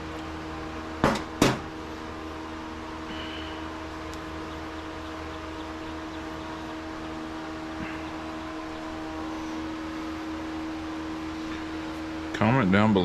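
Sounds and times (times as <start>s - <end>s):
electric fan whooshing hum: 0.0s - 13.0s.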